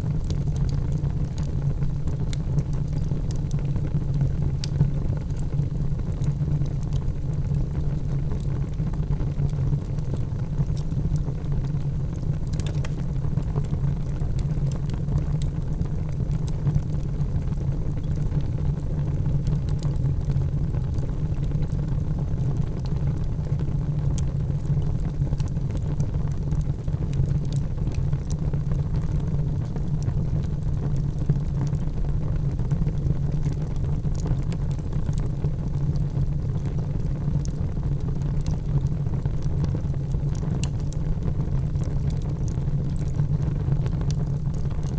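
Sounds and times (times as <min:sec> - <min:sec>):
fire crackling in a fireplace: 0:00.0 - 0:44.9.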